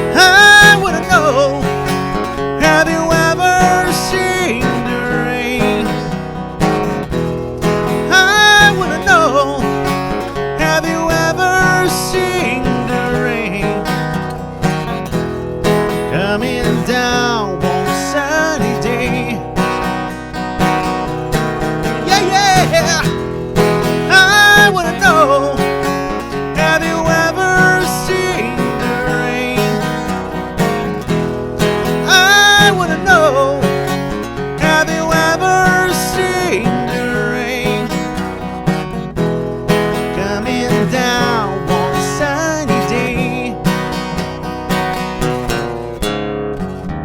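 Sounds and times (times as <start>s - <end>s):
acoustic guitar strumming: 0.0s - 47.0s.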